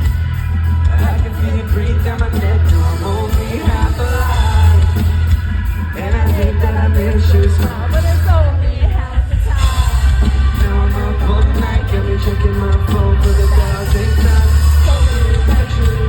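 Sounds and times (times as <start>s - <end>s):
heavy bass: 0.0s - 16.0s
steady drums: 0.0s - 16.0s
person singing: 0.8s - 16.0s.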